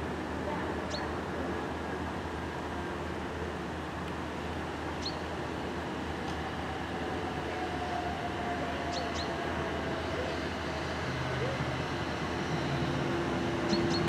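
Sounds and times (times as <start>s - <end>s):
electric train approaching: 0.0s - 14.0s.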